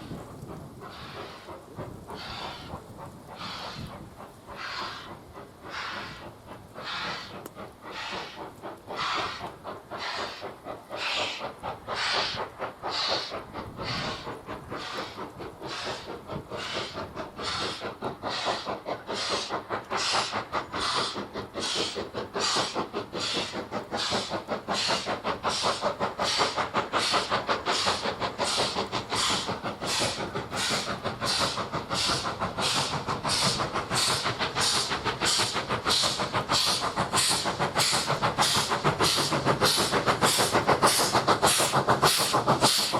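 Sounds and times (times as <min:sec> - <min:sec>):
steam locomotive exhaust chuffing: 0:00.0 - 0:42.9.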